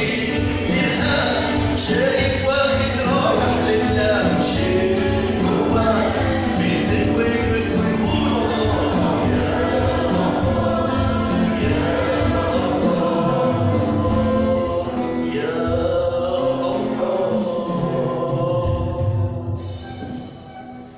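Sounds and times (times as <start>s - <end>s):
choir singing a hymn: 0.0s - 19.8s
instrumental accompaniment: 0.0s - 20.9s.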